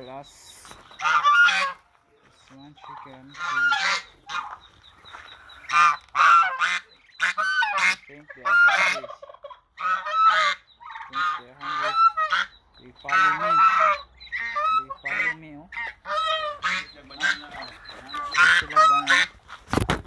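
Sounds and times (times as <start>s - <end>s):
geese honking loudly: 0.8s - 2.0s, 2.6s - 19.6s.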